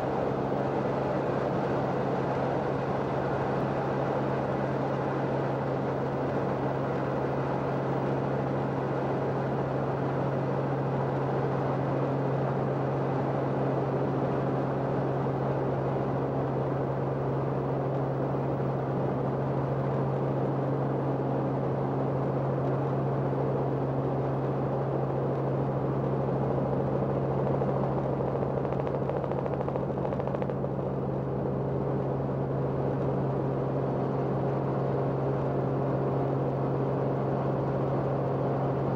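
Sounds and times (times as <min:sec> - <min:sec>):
aircraft engine and rotor drone: 0:00.0 - 0:38.9.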